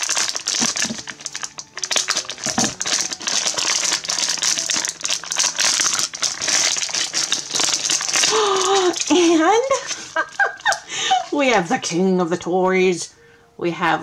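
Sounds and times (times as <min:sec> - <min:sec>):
plastic foil bag crinkling: 0:00.0 - 0:12.0.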